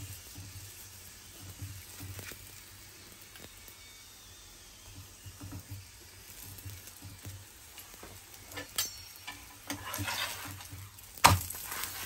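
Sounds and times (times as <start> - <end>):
flatbread sizzling in a pan: 0.0 - 12.0.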